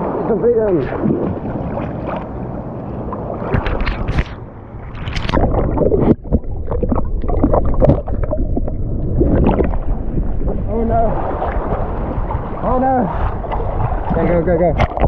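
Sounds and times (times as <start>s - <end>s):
water sloshing underwater: 0.0s - 15.0s
bubbles rushing: 0.8s - 2.3s, 3.3s - 15.0s.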